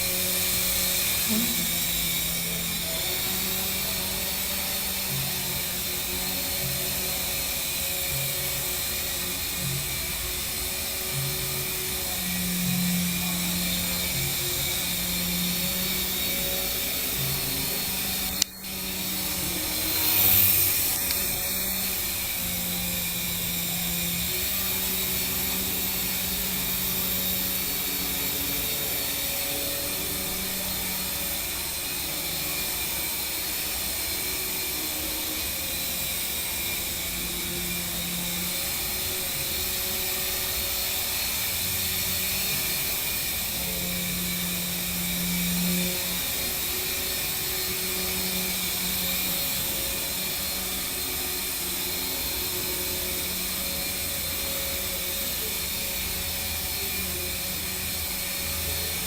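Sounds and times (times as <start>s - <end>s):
toy helicopter rotor whine: 0.0s - 59.0s.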